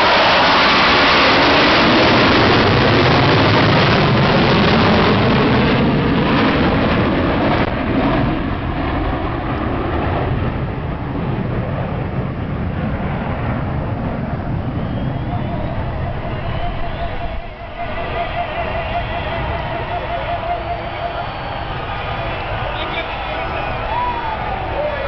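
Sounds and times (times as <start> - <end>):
military jets flying over: 0.0 - 25.0.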